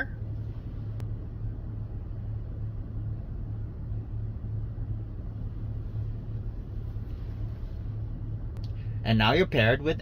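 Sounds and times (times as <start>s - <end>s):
car rumble inside cabin: 0.0s - 10.0s.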